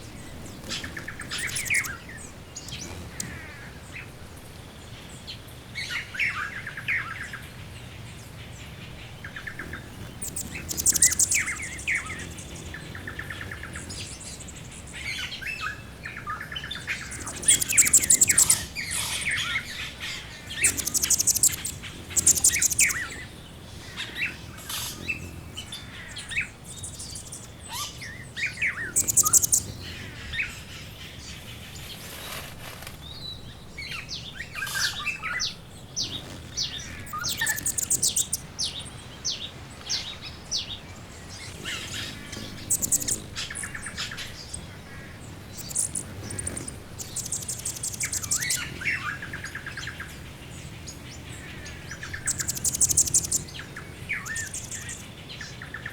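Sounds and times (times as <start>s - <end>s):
high rapid bird trills: 0.0s - 4.1s, 8.6s - 31.9s, 33.9s - 55.9s
birds chirping: 0.0s - 32.4s, 33.0s - 55.9s.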